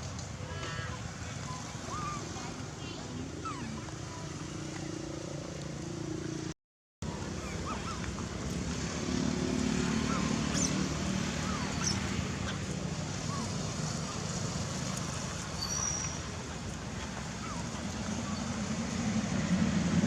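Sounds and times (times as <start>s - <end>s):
motorcycle engine hum: 0.0s - 20.0s.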